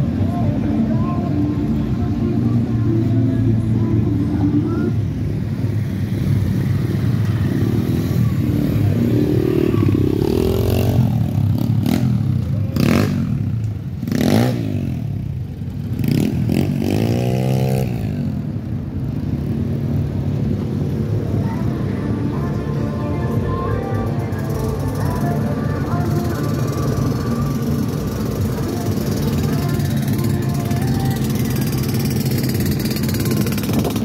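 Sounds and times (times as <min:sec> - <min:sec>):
engines revving: 0:00.0 - 0:34.0.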